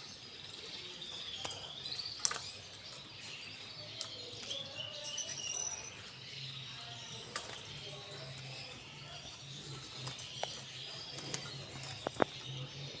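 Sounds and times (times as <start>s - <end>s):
canary chirping softly: 0.0s - 13.0s.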